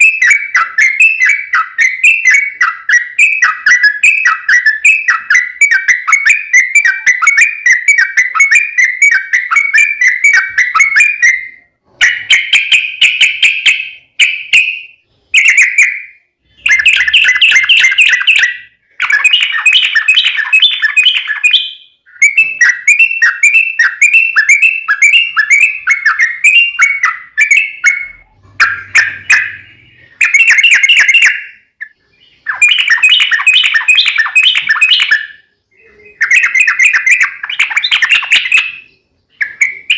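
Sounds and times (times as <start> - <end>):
bird singing bubbling notes: 0.0 - 39.9.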